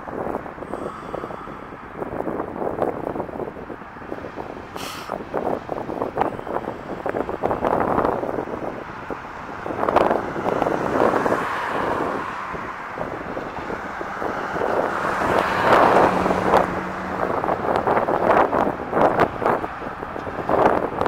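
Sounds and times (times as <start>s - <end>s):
highway traffic passing: 0.0s - 21.0s
wind buffeting microphone: 0.0s - 21.0s.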